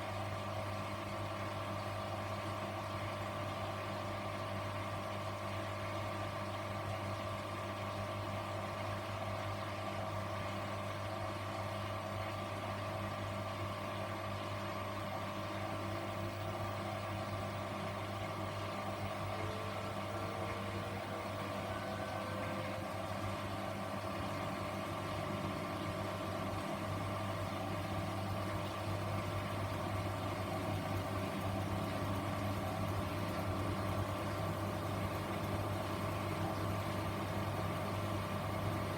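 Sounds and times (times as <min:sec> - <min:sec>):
washing machine motor humming: 0:00.0 - 0:38.9.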